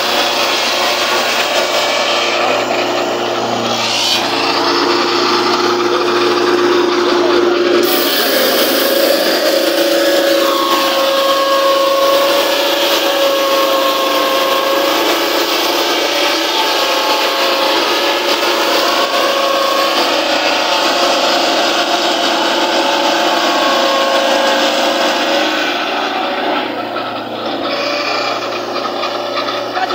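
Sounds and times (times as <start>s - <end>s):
saw blade ripping through wood: 0.0s - 7.0s, 7.6s - 29.9s
engine drone: 0.0s - 29.9s.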